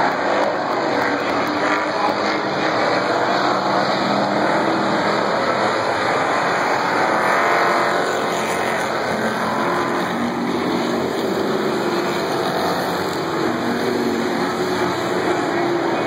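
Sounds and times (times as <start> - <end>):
race car engines roaring: 0.0 - 16.0.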